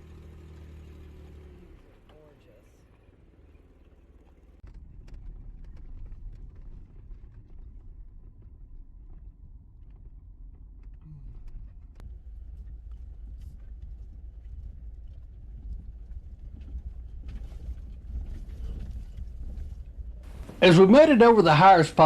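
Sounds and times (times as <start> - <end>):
vehicle rumbling on dirt trail: 0.0 - 8.8, 11.5 - 22.0.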